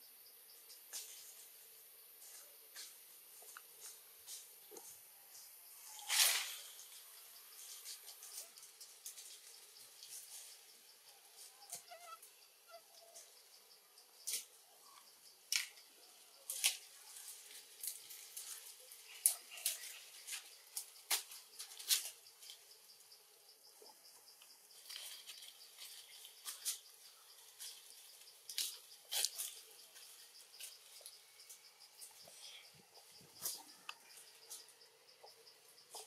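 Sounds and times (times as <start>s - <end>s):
faint forest hiss: 0.0s - 36.0s.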